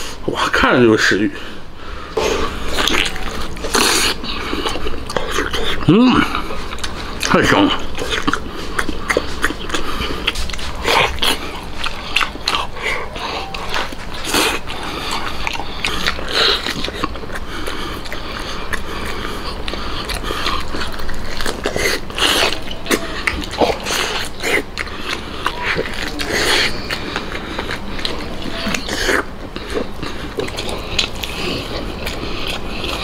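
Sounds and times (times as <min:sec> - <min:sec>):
person chewing meat: 0:00.0 - 0:00.2, 0:01.3 - 0:33.0.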